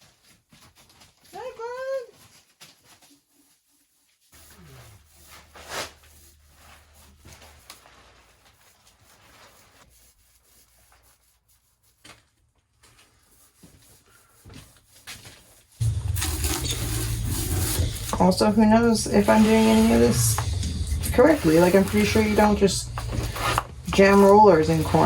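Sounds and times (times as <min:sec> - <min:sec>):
rubbing and handling noise: 0:00.0 - 0:25.0.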